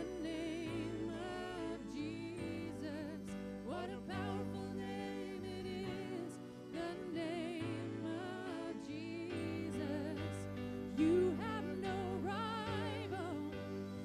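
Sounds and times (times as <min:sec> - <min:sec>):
person singing with vibrato: 0:00.0 - 0:14.0.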